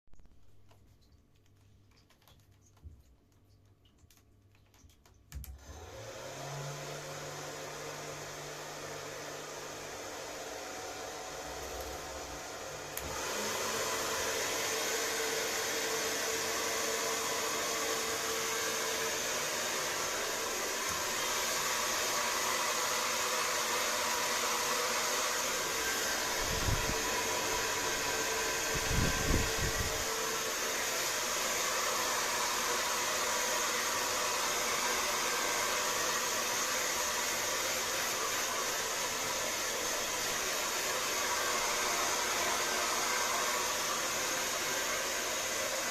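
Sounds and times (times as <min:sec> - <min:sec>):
hair dryer blowing: 0:05.4 - 0:45.9.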